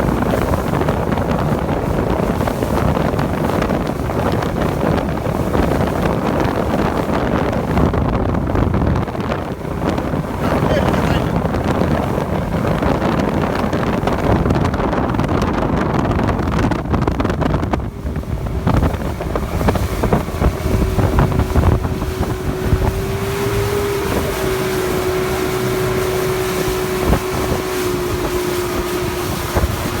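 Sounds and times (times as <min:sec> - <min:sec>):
motorboat engine running: 0:00.0 - 0:30.0
wind rushing over microphone: 0:00.0 - 0:30.0.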